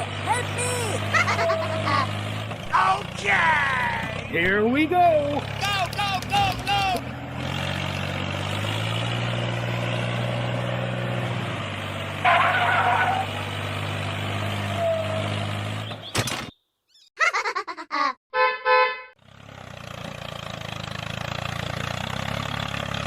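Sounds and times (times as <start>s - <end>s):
tractor engine running: 0.0s - 16.6s, 19.2s - 23.0s.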